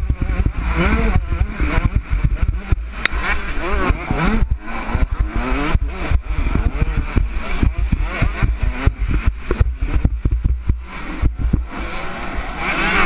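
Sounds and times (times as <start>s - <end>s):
motocross engine revving: 0.0s - 13.0s
other dirt bikes: 0.0s - 13.0s
wind buffeting microphone: 0.0s - 13.0s.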